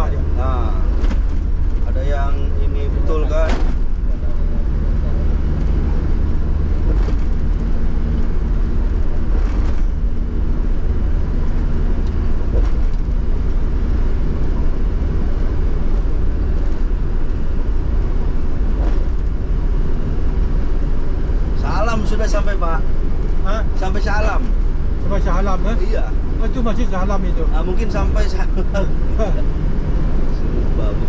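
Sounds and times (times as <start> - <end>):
car road rumble and engine hum: 0.0 - 31.0.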